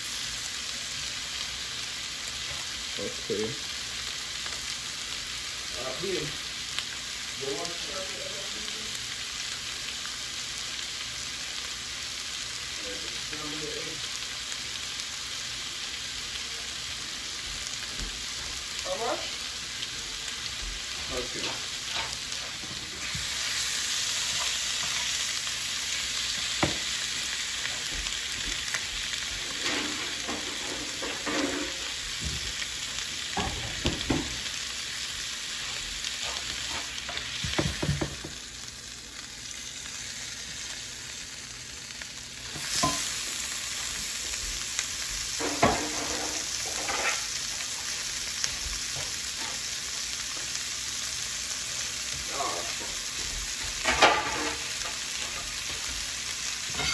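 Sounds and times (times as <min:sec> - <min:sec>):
meat sizzling in a skillet: 0:00.0 - 0:56.9.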